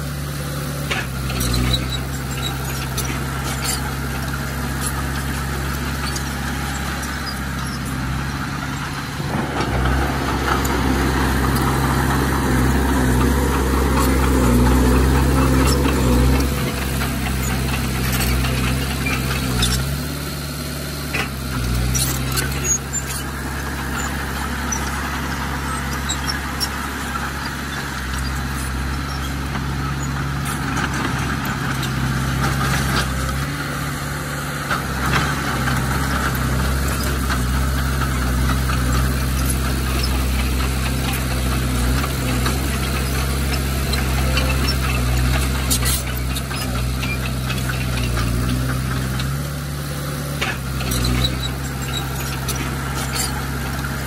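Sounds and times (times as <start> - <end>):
bulldozer diesel engine: 0.0 - 54.0
machine squealing: 1.0 - 20.7, 21.3 - 32.1, 35.2 - 54.0.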